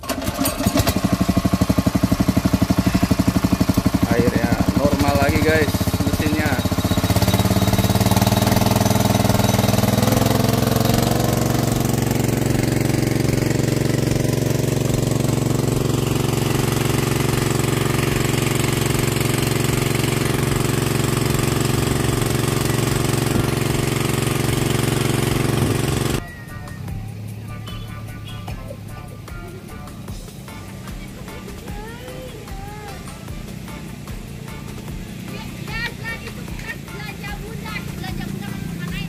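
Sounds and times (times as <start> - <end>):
water pump petrol engine running: 0.0 - 26.2, 26.8 - 39.0.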